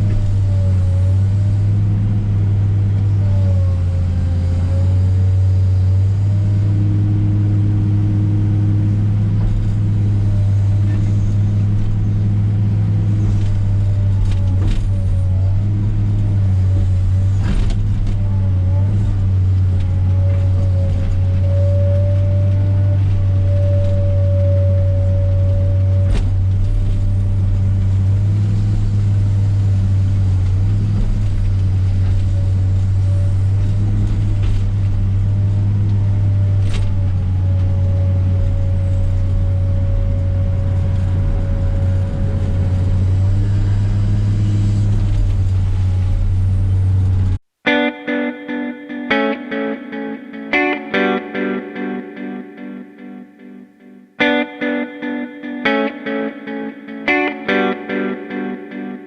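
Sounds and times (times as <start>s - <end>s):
excavator diesel engine running: 0.0s - 47.4s.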